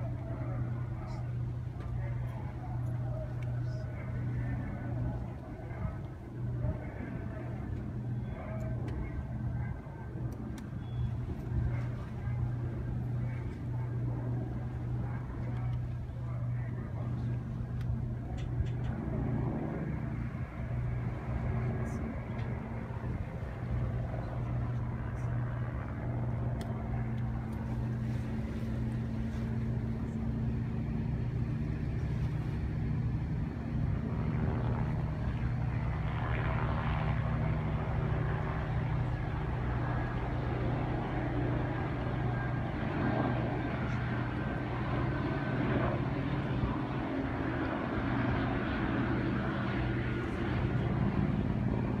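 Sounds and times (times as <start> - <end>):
low engine drone: 0.0 - 52.0
mixed background noise: 0.0 - 52.0.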